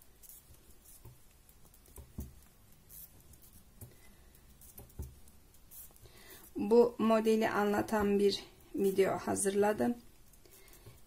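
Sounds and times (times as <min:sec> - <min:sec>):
knitting needles tapping: 0:00.1 - 0:06.7, 0:07.6 - 0:09.2, 0:09.8 - 0:11.0.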